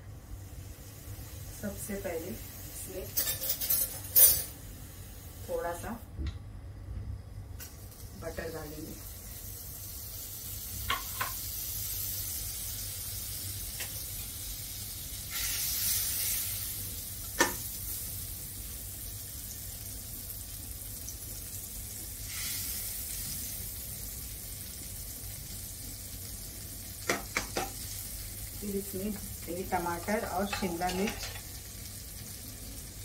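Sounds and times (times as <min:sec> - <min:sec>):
butter sizzling in a pan: 0:00.0 - 0:05.9, 0:07.2 - 0:33.0.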